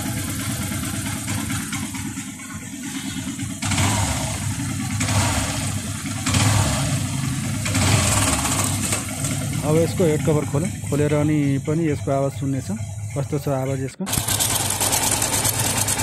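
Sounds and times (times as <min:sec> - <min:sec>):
motorcycle engine clattering: 0:00.0 - 0:16.0.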